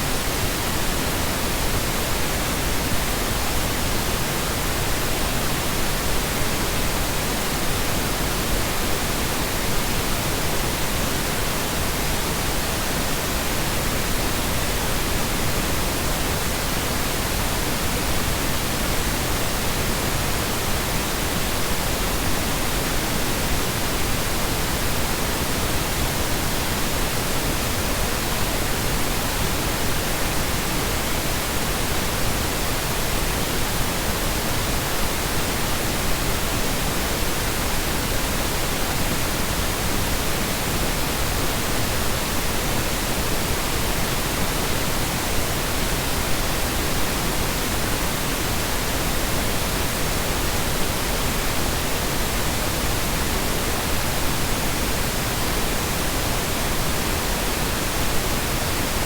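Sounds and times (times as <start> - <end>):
continuous even hiss: 0.0 - 59.0.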